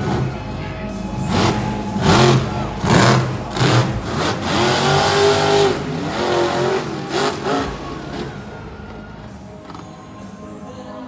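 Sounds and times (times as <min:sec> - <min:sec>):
monster truck engine revving: 0:00.0 - 0:09.8.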